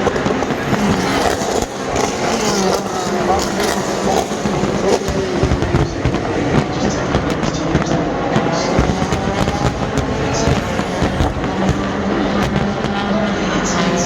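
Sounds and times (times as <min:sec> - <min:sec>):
sharp cracks: 0:00.0 - 0:13.2
race car engines passing: 0:00.0 - 0:14.0.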